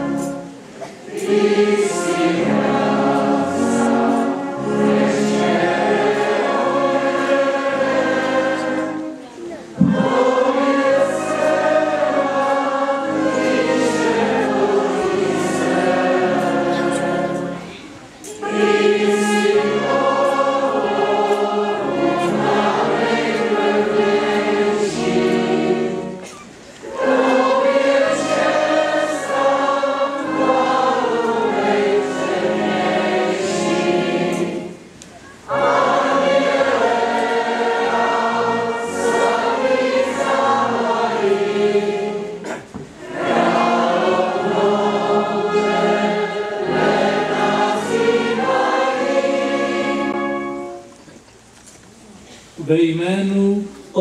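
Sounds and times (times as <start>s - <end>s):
voices singing a hymn: 0.0s - 50.9s.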